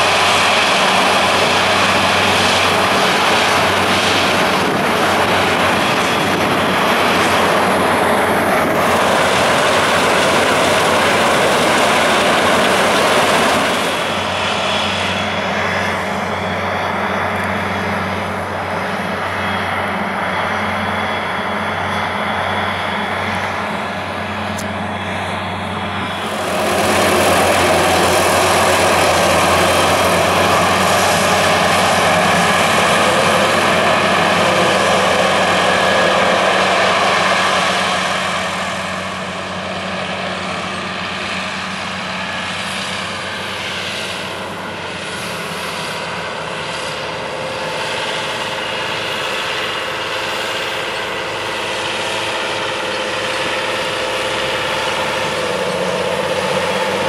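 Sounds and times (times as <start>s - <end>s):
combine harvester running: 0.0s - 57.0s
tractor engine: 0.0s - 57.0s.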